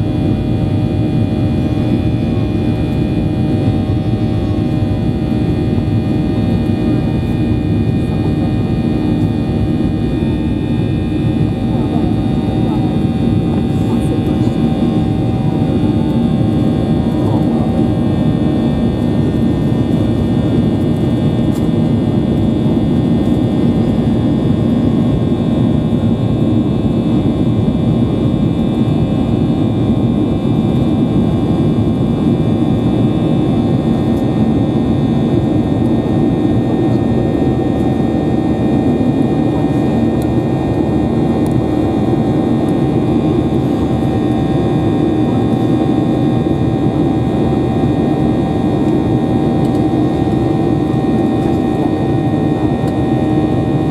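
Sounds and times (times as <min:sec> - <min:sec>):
jet engines heard inside cabin: 0:00.0 - 0:53.9.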